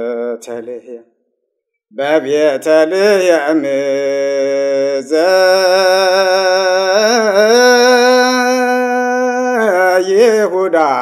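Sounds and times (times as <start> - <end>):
man singing a hymn: 2.0 - 11.0.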